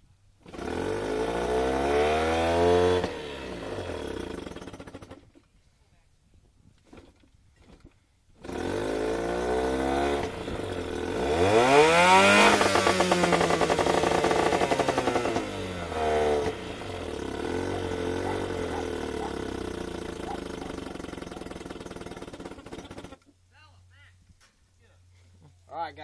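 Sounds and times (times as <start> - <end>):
outboard motor revving: 0.4 - 5.4, 6.8 - 23.3.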